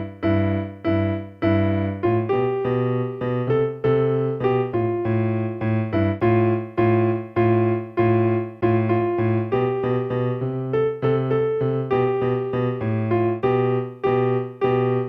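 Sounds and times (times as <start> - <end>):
electronic keyboard piano playing: 0.0 - 15.0.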